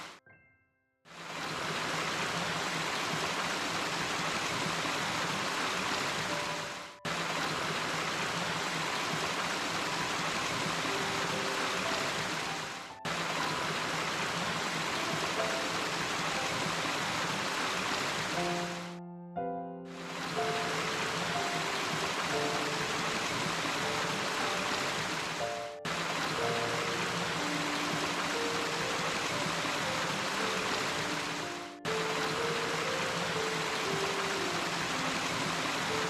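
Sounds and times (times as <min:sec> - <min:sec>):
rushing noise like water: 0:00.0 - 0:00.2, 0:01.1 - 0:19.0, 0:19.9 - 0:36.0.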